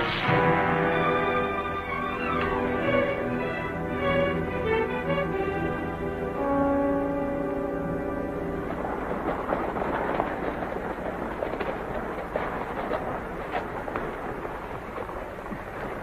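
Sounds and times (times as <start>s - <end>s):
old film soundtrack hiss: 0.0s - 16.0s
horse hooves clopping on dirt: 1.0s - 16.0s.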